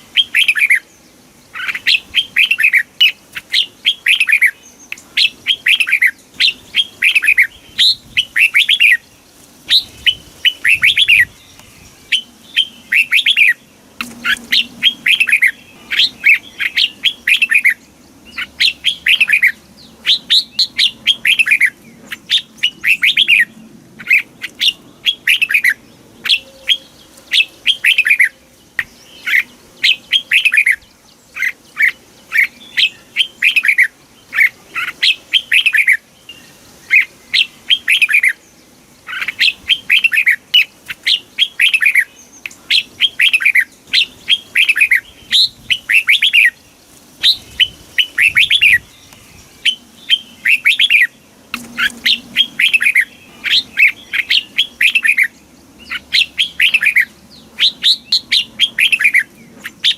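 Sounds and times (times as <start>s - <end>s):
bird whistling song: 0.0s - 0.9s, 1.5s - 9.1s, 9.7s - 38.4s, 39.1s - 46.6s, 47.2s - 59.9s.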